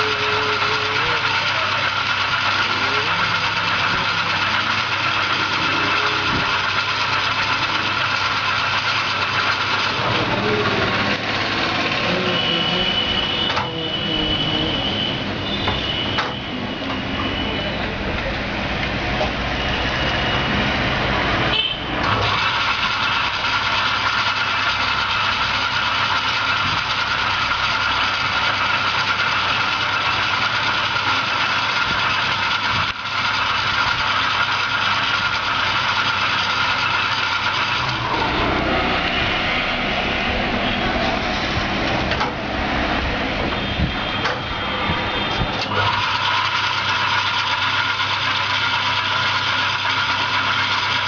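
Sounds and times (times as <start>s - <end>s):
loud machine running with hum: 0.0s - 51.0s.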